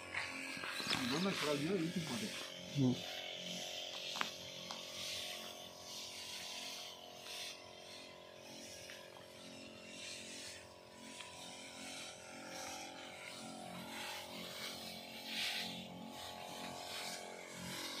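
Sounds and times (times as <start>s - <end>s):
pump motor humming: 0.0s - 18.0s
spray nozzle hissing: 0.0s - 18.0s.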